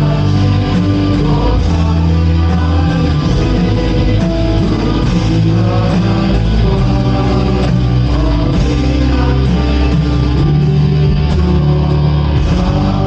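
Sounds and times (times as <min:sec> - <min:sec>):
guitar: 0:00.0 - 0:13.0
praise band playing worship song: 0:00.0 - 0:13.0.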